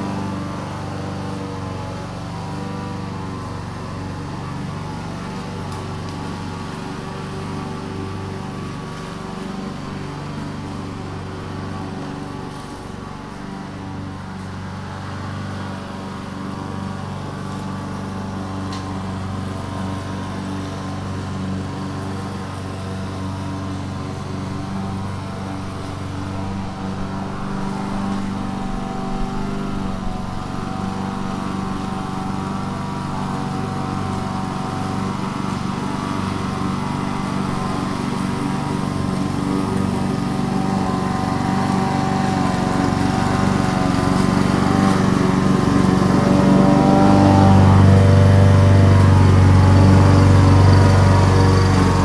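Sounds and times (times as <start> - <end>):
lawn mower engine running: 0.0 - 52.0.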